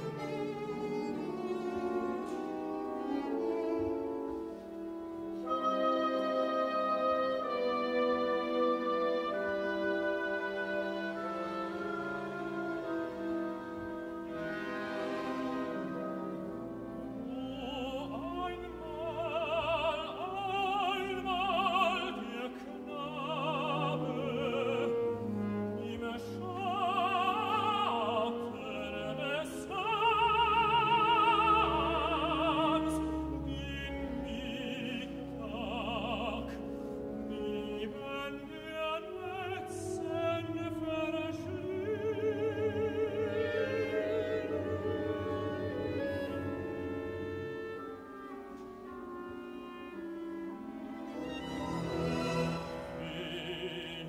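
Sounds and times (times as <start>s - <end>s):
operatic tenor singing: 0.0s - 54.0s
symphony orchestra playing: 0.0s - 54.0s.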